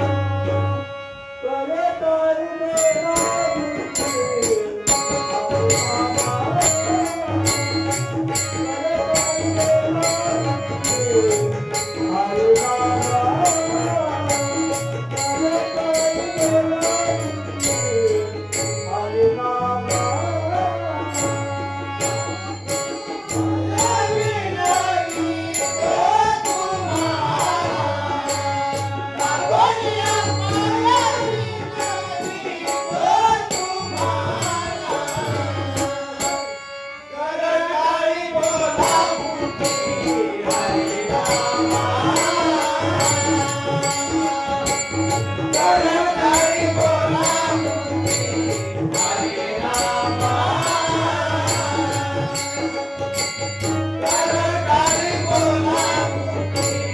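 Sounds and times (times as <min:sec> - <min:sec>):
man singing devotional song: 0:00.0 - 0:56.9
tabla: 0:00.0 - 0:56.9.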